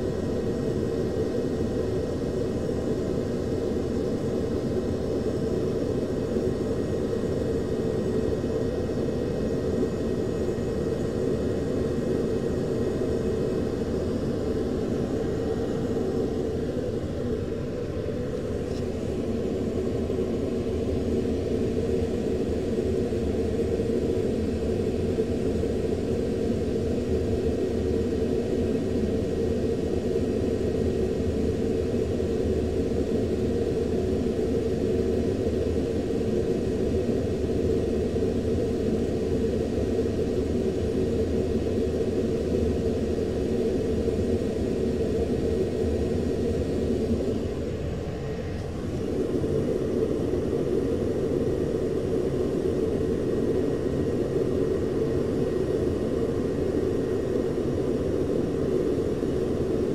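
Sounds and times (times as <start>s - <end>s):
jet cockpit engine rumble: 0.0s - 59.9s.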